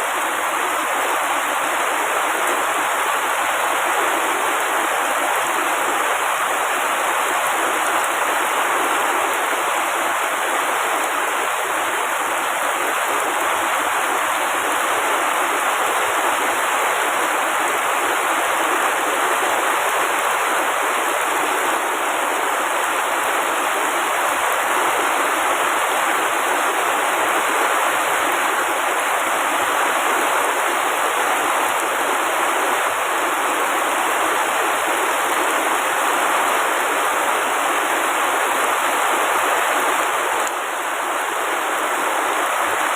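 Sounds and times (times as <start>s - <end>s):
heavy rain on foliage: 0.0s - 42.9s.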